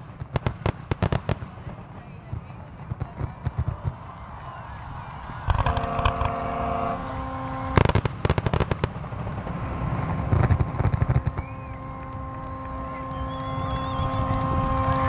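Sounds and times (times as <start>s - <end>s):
fireworks booming: 0.0s - 4.5s, 5.2s - 15.0s
fireworks crackling bangs: 0.0s - 15.0s.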